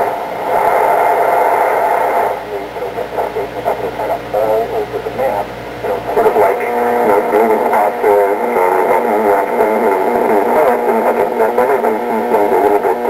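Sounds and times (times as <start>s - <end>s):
thin radio broadcast voices: 0.0s - 13.0s.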